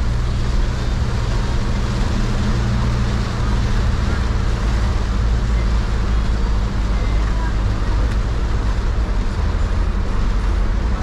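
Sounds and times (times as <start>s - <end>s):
engine and tyres humming: 0.0s - 11.0s
heavy rain on vehicle roof: 0.0s - 11.0s.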